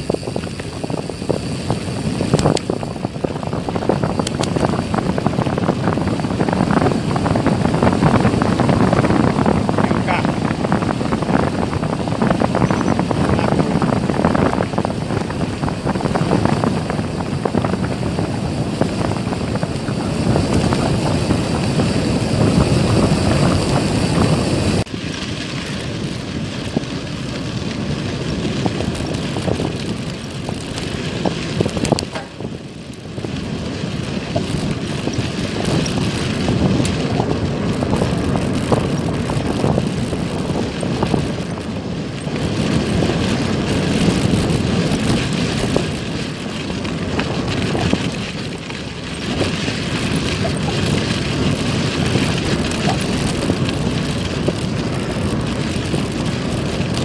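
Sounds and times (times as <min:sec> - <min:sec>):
bicycle rattling and rolling: 0:00.0 - 0:57.0
wind buffeting microphone: 0:00.0 - 0:57.0.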